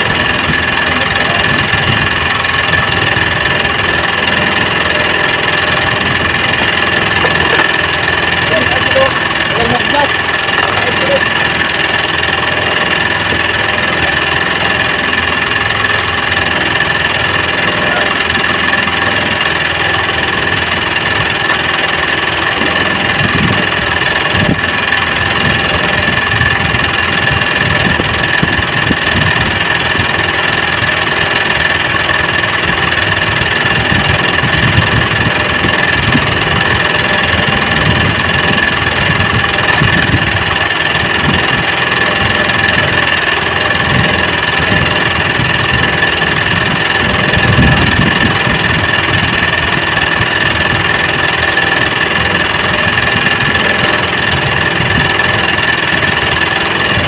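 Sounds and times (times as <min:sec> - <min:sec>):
small boat engine idling: 0:00.0 - 0:57.0.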